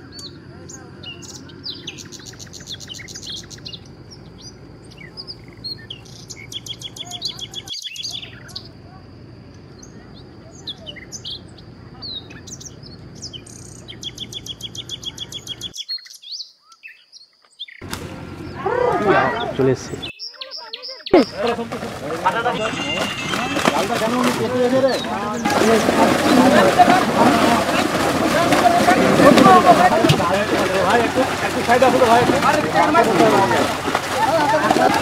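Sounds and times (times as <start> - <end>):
low outdoor rumble: 0.0 - 15.7, 17.8 - 20.1, 21.2 - 35.0
birds chirping and trilling: 0.0 - 35.0.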